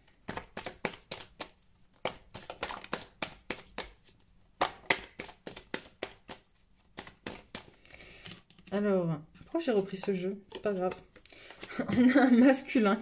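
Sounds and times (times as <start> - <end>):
cards being shuffled: 0.1 - 8.7, 9.9 - 12.6.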